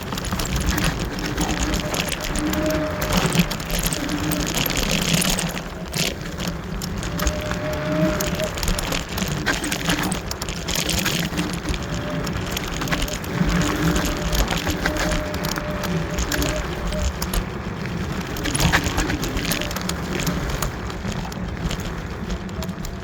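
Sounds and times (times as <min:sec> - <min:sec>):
clicks and rattles: 0:00.0 - 0:23.0.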